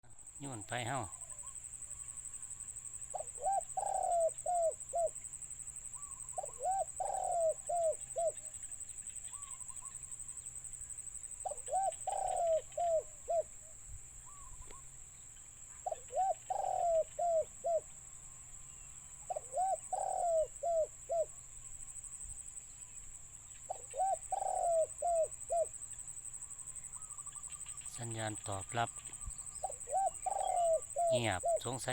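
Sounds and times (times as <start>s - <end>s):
dove cooing: 0.1s - 10.5s, 11.3s - 13.6s, 14.2s - 14.9s, 15.7s - 18.0s, 19.1s - 21.5s, 23.5s - 31.9s.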